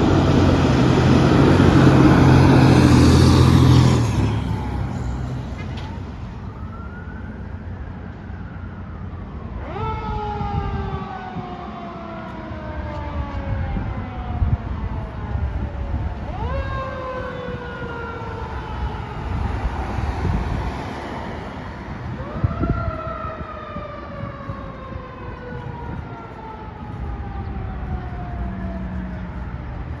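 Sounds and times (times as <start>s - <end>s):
fire truck siren wailing: 0.0s - 30.0s.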